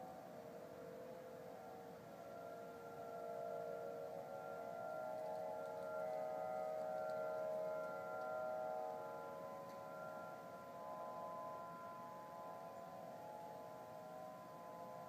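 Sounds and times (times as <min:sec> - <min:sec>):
hum of steady tones in the sky: 0:00.0 - 0:15.0.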